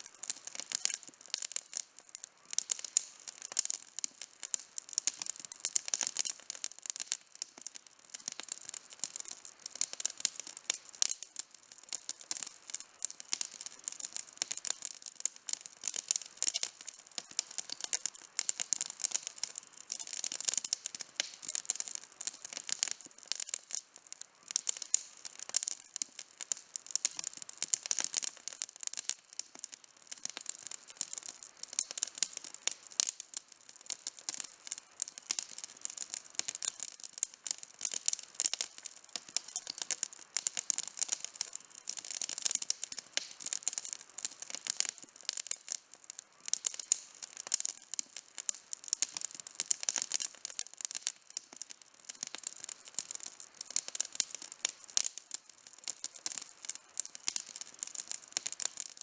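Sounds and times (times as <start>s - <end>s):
campfire wood crackling and popping: 0.0s - 59.0s.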